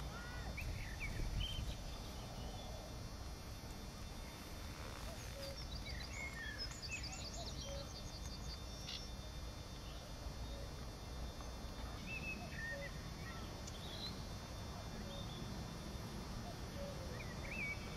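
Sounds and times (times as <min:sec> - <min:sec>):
small birds singing: 0:00.0 - 0:03.1, 0:03.8 - 0:17.9.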